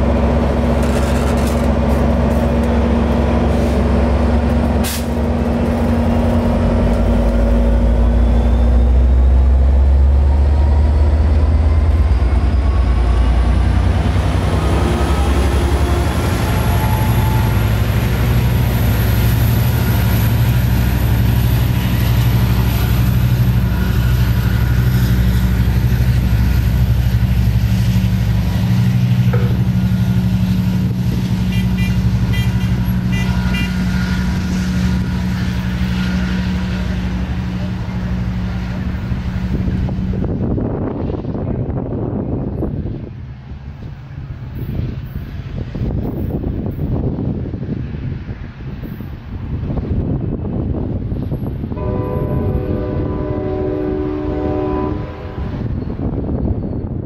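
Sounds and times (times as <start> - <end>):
locomotive engine drone: 0.0 - 57.0
passenger train passing: 0.0 - 57.0.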